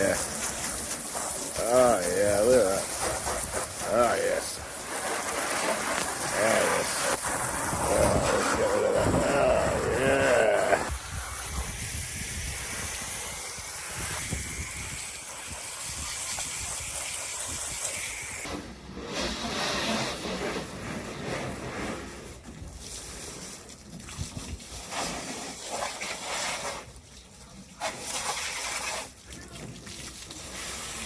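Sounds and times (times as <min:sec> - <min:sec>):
water spraying onto car: 0:00.0 - 0:31.0.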